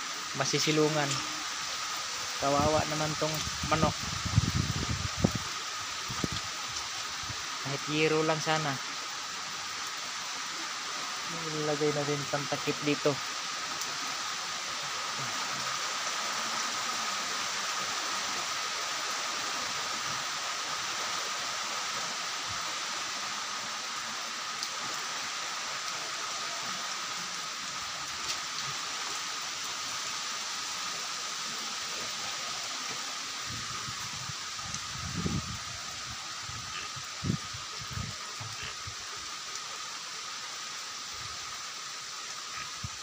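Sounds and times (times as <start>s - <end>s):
heavy rain hissing: 0.0s - 43.0s
wind in trees and leaves: 0.0s - 43.0s.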